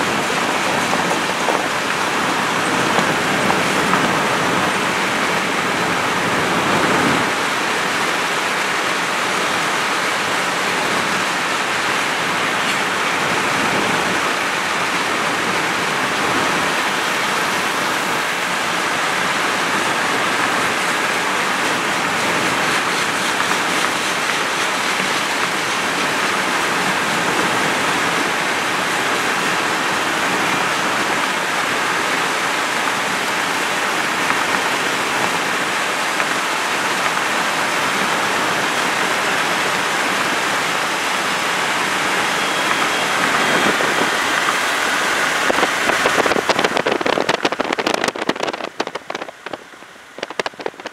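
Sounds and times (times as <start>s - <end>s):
wind and tyre noise: 0.0s - 50.9s.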